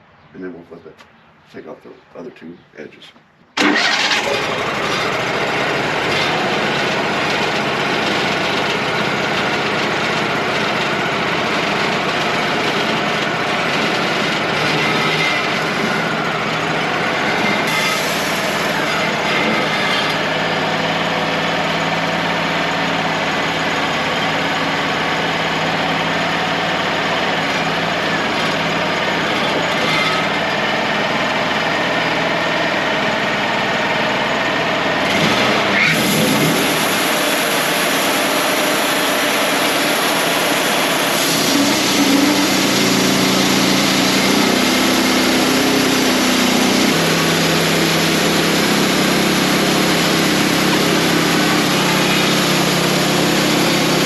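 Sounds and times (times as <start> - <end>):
bandsaw sawing log: 3.6 - 32.2, 35.0 - 54.0.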